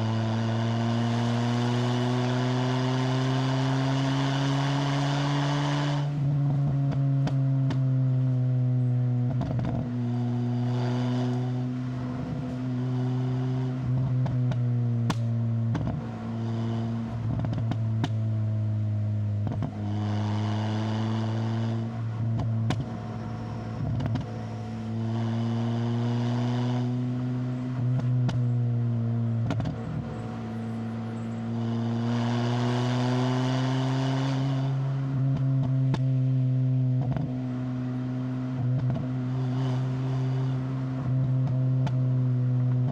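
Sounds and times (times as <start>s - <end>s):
car engine pulling uphill: 0.0s - 42.9s.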